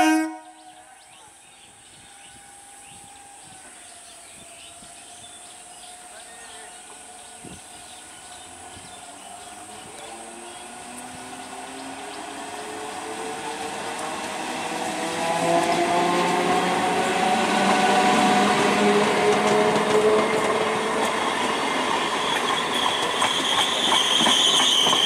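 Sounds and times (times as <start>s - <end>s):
train running noise: 0.1s - 25.0s.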